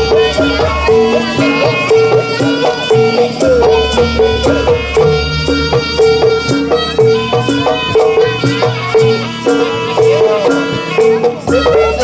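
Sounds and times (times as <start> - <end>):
drum and percussion strokes: 0.0 - 12.0
gamelan music: 0.0 - 12.0.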